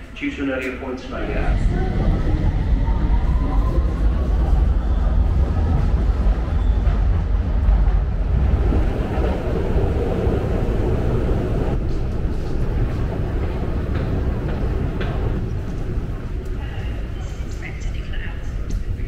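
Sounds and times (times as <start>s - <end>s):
noisy station din: 0.0s - 19.0s
train rumbling along platform: 0.0s - 19.0s.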